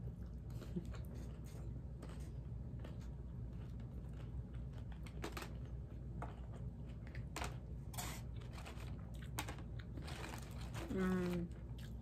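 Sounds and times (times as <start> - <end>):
chewing crunchy taco shell: 0.0 - 12.0.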